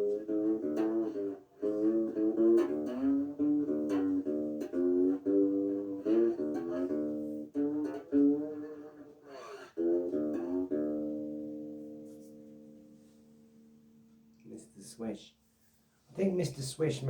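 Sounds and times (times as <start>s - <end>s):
acoustic guitar plucked with slides: 0.0s - 14.3s.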